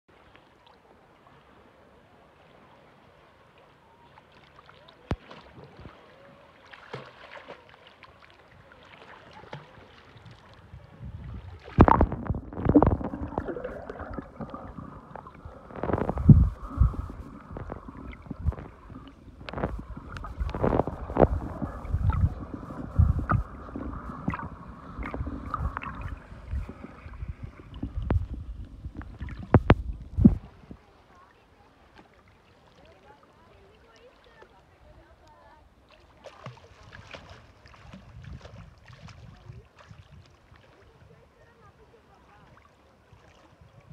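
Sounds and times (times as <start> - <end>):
water sloshing and gurgling underwater: 0.1 - 43.9.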